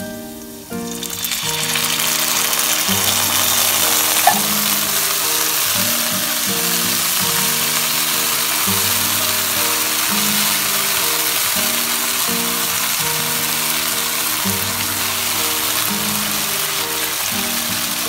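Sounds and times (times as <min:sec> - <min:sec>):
background music: 0:00.0 - 0:18.0
sauce sizzling in a wok: 0:00.0 - 0:18.0.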